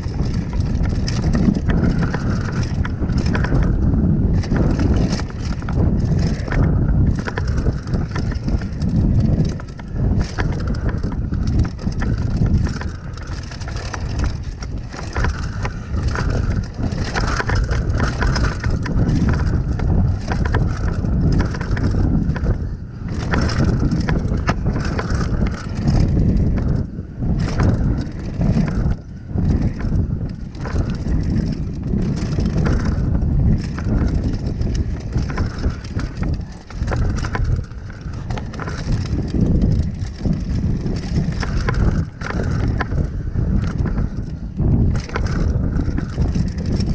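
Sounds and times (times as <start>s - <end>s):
bike knocks and rattles: 0.0s - 46.9s
bike tyres rolling over dirt: 0.0s - 46.9s
wind rushing over microphone: 0.0s - 46.9s.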